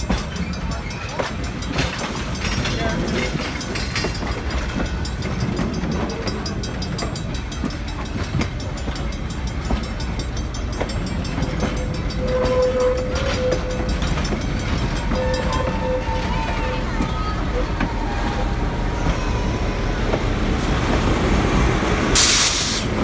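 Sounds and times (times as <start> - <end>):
train wheels clacking over rail joints: 0.0 - 23.0.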